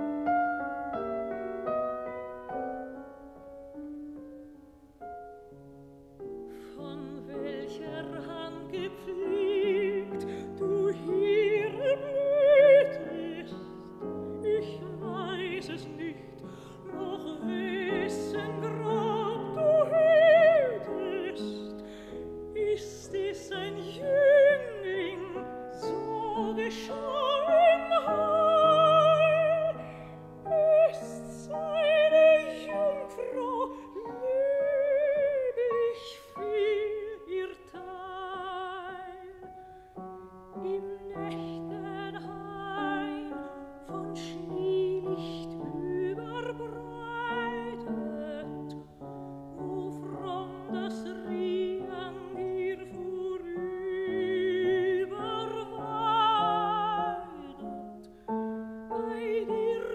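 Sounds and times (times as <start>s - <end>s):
piano accompaniment: 0.0s - 59.9s
soprano singing with vibrato: 6.3s - 59.9s.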